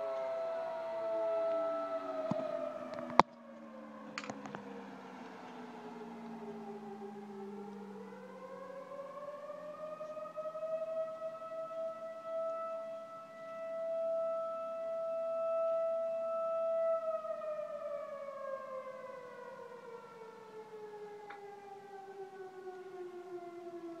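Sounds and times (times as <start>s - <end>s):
fire siren: 0.0s - 24.0s.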